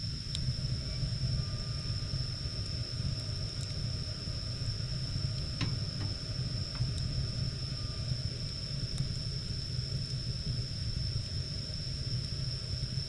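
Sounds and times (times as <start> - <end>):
steady high whine: 0.0 - 13.0
wood fire crackling: 0.1 - 13.0.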